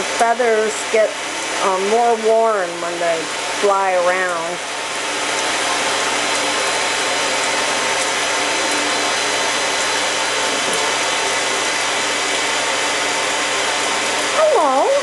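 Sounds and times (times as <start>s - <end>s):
blow dryer motor hum: 0.0s - 15.0s.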